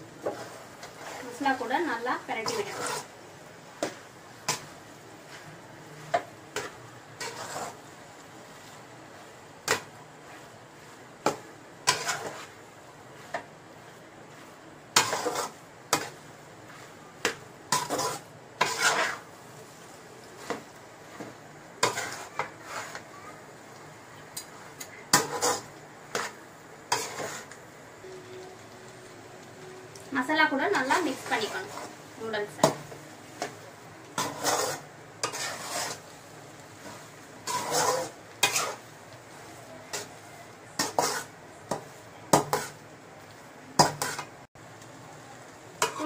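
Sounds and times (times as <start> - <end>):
metal spatula scraping a metal pan: 0.2 - 3.1, 3.8 - 19.3, 20.3 - 23.1, 25.1 - 27.6, 30.5 - 42.8, 43.8 - 44.3, 45.8 - 46.0.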